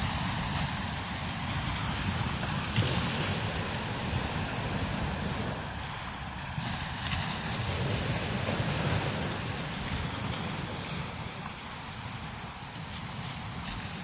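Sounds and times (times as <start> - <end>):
wind buffeting microphone: 0.0 - 14.0
wind hiss: 0.0 - 14.0.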